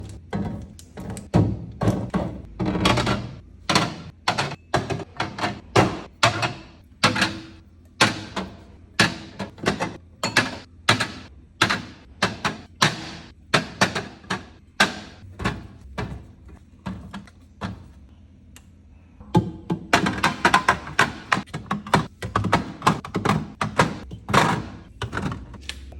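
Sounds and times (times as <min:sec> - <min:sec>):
groceries thunking in refrigerator: 0:00.0 - 0:18.0, 0:19.2 - 0:25.9.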